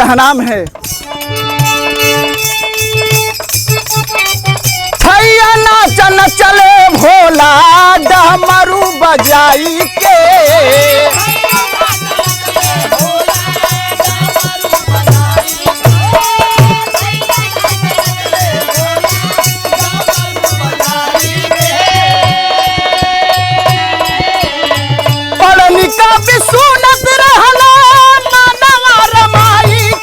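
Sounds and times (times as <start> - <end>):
rattling percussion: 0.0 - 30.0
steady drum beat: 0.0 - 30.0.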